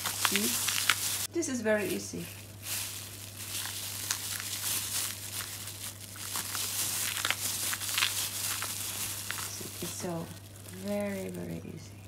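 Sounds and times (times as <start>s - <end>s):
plastic gloves crinkling: 0.0s - 12.0s.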